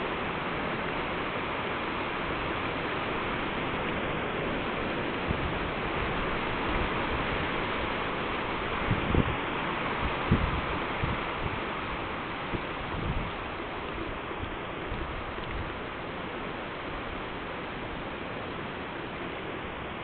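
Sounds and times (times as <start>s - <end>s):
wind rushing through trees: 0.0s - 20.0s.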